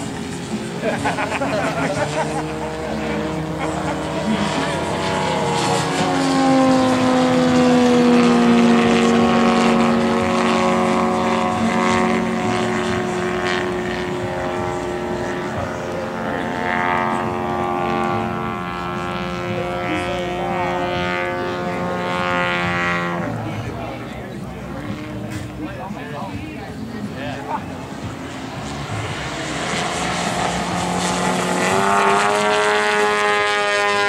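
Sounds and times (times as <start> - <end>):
model airplane engine drone: 0.0 - 34.0.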